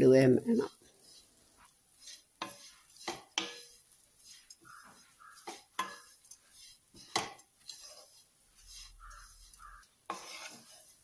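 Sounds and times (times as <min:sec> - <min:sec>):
wooden spatula stirring coconut: 0:00.0 - 0:11.0
spatula knocking and scraping pan: 0:00.6 - 0:11.0.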